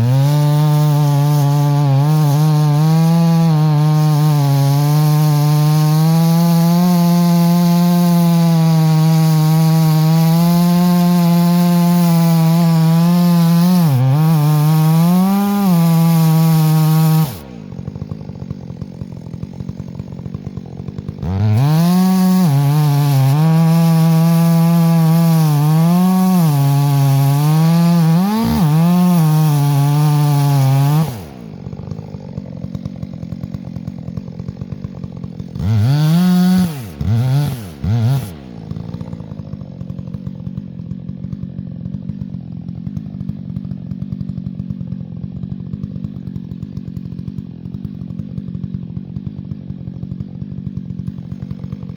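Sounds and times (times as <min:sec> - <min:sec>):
chainsaw cutting at high speed: 0:00.0 - 0:51.9
chainsaw ticking idle: 0:00.0 - 0:51.9.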